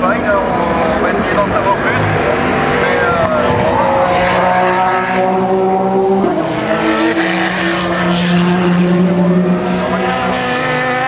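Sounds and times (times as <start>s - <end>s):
race cars passing at speed: 0.0s - 11.0s.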